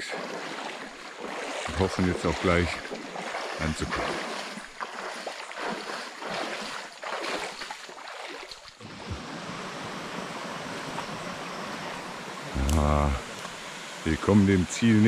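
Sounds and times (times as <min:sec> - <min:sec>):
feet splashing through creek: 0:00.0 - 0:14.9
flowing creek water: 0:00.0 - 0:15.0.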